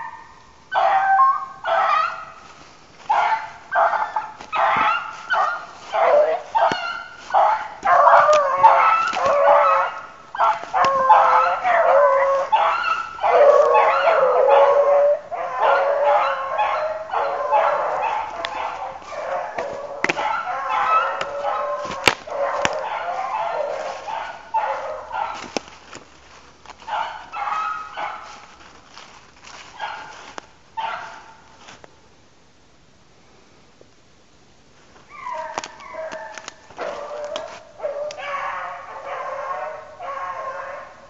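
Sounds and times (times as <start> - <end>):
hounds baying: 0.0 - 31.5, 35.0 - 41.0.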